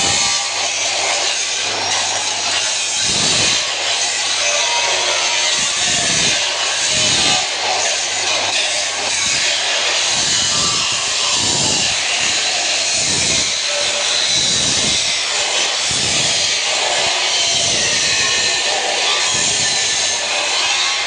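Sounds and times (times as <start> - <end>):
angle grinder cutting: 0.0 - 21.0.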